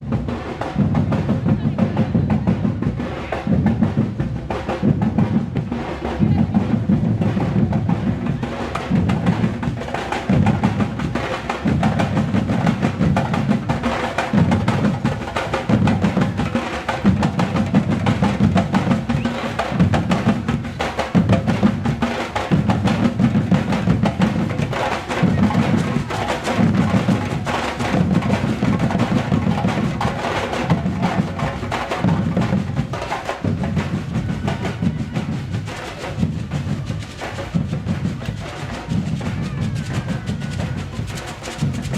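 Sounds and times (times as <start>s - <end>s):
percussion ensemble playing: 0.0s - 41.9s.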